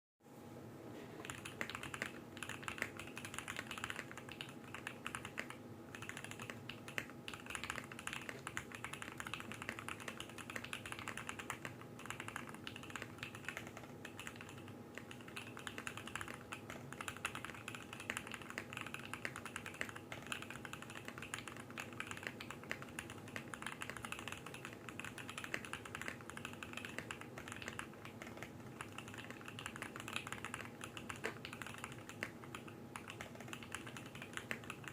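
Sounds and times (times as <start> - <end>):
faint hum: 0.2 - 34.9
mechanical keyboard typing: 1.2 - 34.9.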